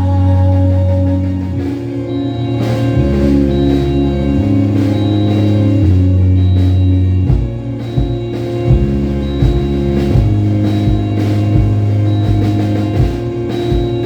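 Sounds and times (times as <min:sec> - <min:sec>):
bass line: 0:00.0 - 0:14.0
held instrumental notes: 0:00.0 - 0:14.0
drum hits: 0:02.6 - 0:14.0.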